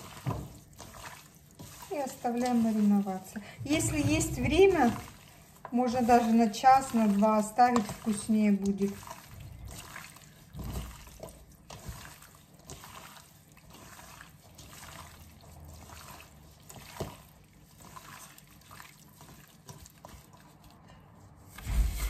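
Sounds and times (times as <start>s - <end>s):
wet shrimp mixing in bowl: 0.0s - 21.9s.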